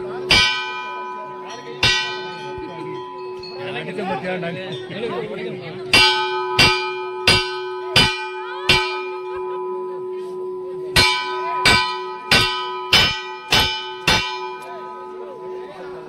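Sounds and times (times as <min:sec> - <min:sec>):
temple bell ringing: 0:00.0 - 0:16.0.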